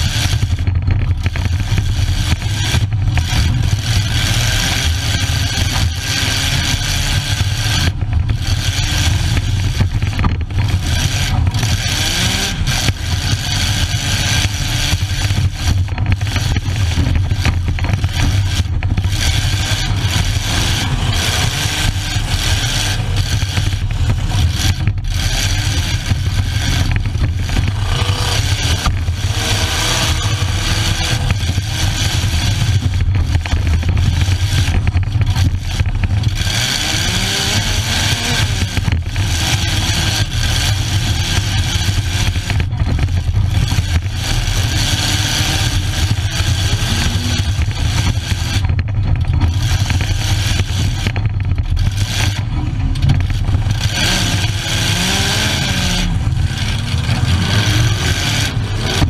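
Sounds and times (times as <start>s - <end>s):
car engine running loud: 0.0s - 59.0s.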